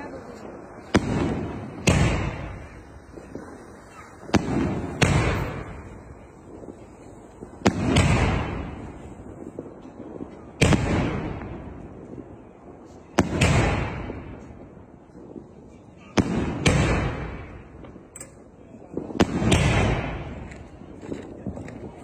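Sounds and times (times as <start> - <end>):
fireworks shots booming: 0.0 - 22.0.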